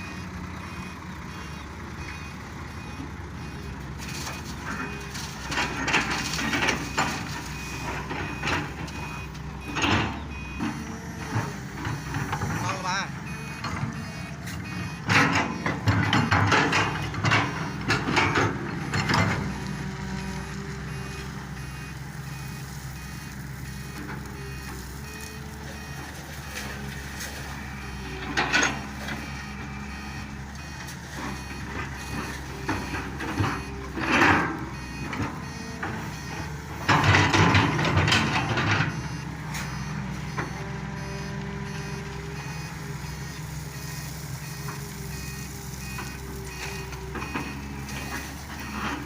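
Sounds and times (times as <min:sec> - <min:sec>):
diesel engines running: 0:00.0 - 0:49.0
reversing alarm beeping: 0:00.0 - 0:49.0.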